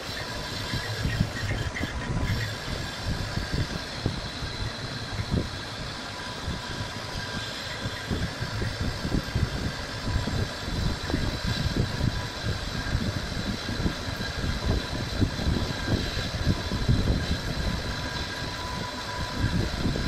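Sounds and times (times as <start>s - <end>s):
metal lathe humming with whine: 0.0s - 20.0s.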